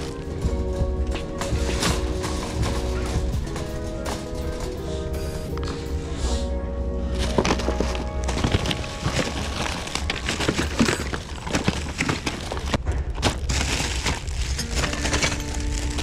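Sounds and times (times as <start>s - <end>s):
plastic bags and boxes rustling: 0.0s - 5.9s, 7.1s - 16.0s.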